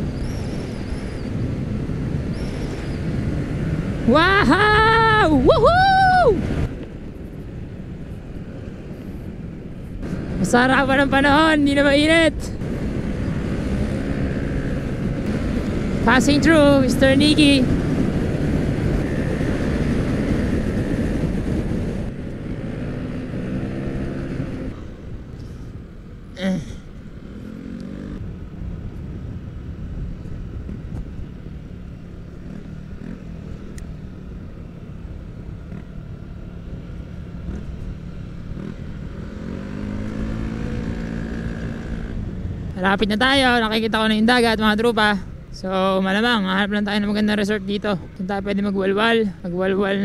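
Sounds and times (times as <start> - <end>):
wind rush on microphone: 0.0 - 50.0.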